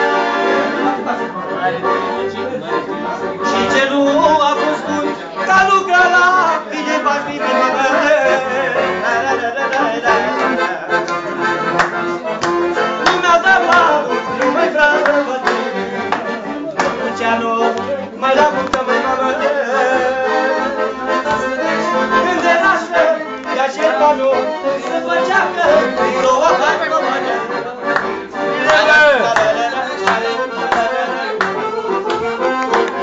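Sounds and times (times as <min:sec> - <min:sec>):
accordion music: 0:00.0 - 0:33.0.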